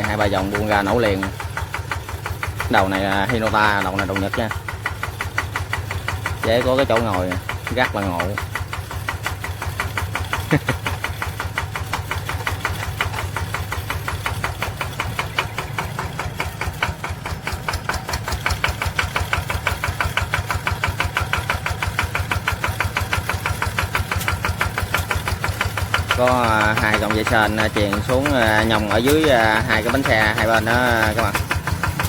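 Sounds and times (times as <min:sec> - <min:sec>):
small engine chugging at idle: 0:00.0 - 0:32.0.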